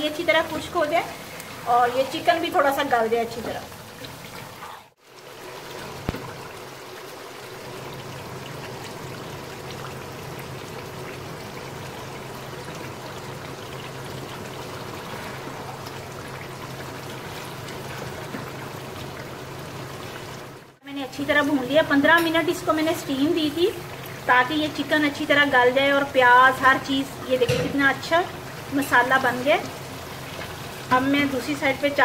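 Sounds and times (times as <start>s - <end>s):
food simmering and sizzling in pan: 0.0s - 32.0s.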